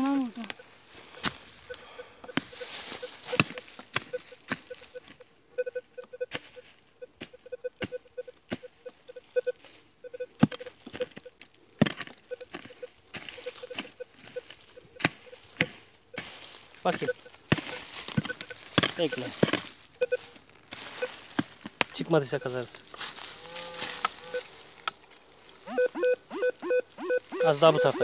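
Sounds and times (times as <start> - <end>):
digging in stony ground: 0.0 - 6.7, 7.3 - 28.0
metal detector low beeps: 1.4 - 11.4, 12.2 - 22.8, 23.4 - 24.7, 25.6 - 28.0.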